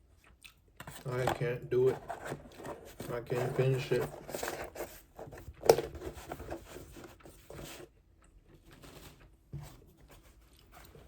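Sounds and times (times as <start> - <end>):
handling noise rustling and scraping: 0.8 - 11.0.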